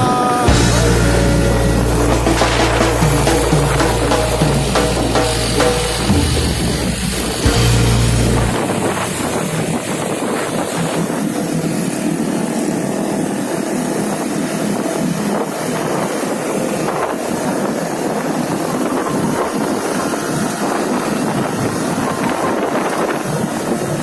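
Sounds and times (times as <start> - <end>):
vehicle road noise: 0.0 - 22.4
wind buffeting microphone: 0.0 - 24.0.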